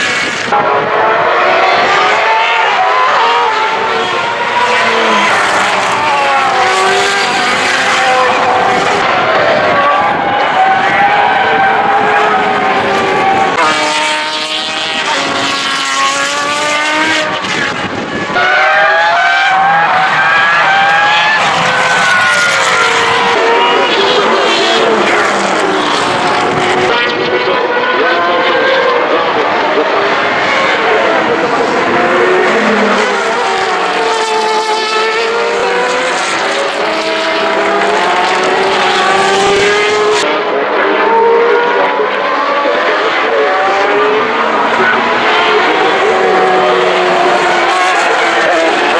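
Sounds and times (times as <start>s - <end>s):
racing car engines accelerating: 0.0s - 48.9s.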